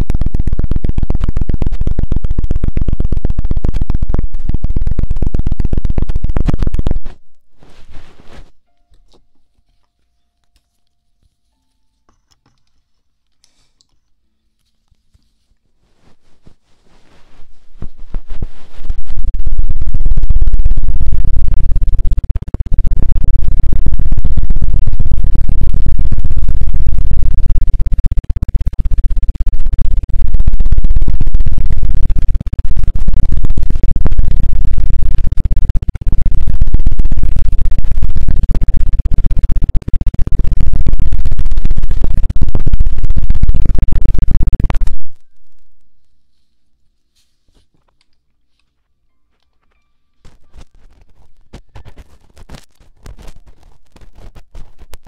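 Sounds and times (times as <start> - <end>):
scratching on a microphone: 0.0 - 10.1, 14.7 - 45.3, 46.0 - 55.0.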